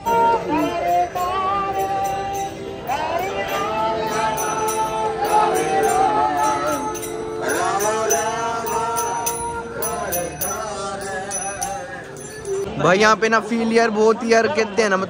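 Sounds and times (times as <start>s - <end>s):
person singing: 0.0s - 12.6s
steady jingle of small bells: 0.0s - 12.8s.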